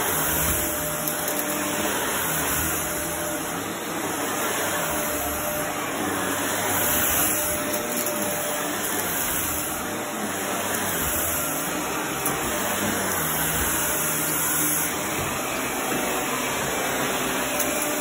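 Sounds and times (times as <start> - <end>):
upright vacuum cleaner running: 0.0 - 18.0.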